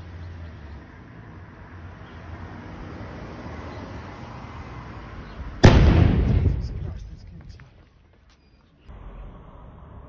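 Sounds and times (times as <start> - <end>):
low street rumble: 0.0 - 10.0.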